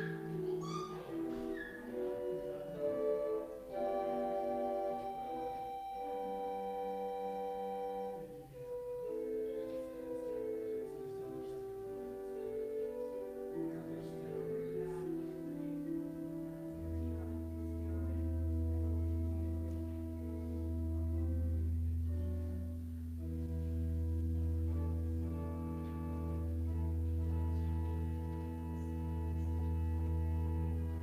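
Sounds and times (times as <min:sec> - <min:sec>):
slow instrumental chords: 0:00.0 - 0:31.0.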